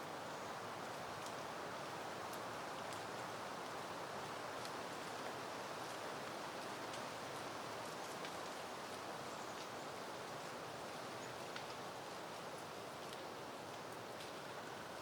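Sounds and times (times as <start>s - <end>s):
wind rustling through foliage: 0.0s - 15.0s
faint light ticks: 0.8s - 14.7s.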